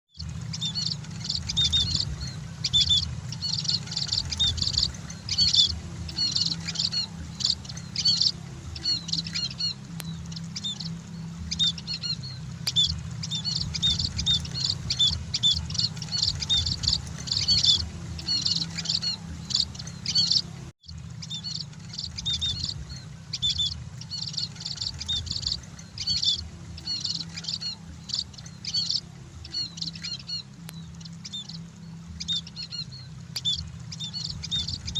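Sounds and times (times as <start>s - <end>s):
small birds chirping: 0.1s - 34.9s
steady low hum: 0.1s - 34.9s.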